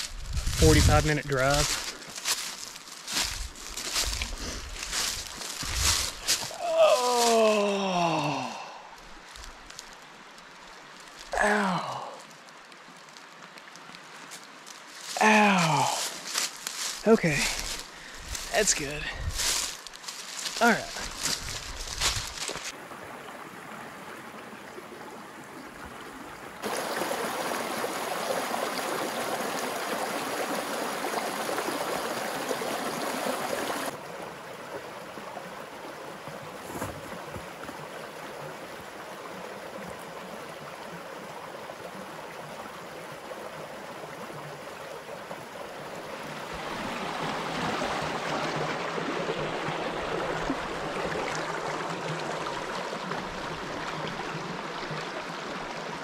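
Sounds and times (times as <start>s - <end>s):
creek rushing over stones: 0.0s - 56.0s.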